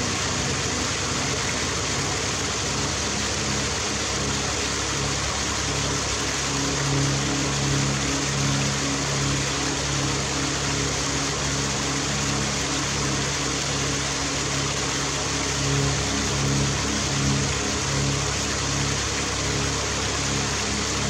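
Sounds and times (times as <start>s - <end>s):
waterfall rushing over rocks: 0.0s - 21.0s.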